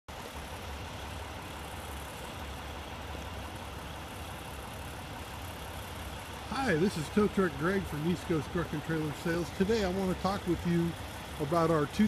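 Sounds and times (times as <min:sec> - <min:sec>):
truck diesel engine idling: 0:00.1 - 0:12.0.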